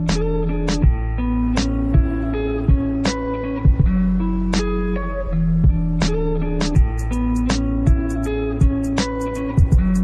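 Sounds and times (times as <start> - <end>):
instrumental music with drum beat: 0.0 - 5.0, 5.6 - 10.0.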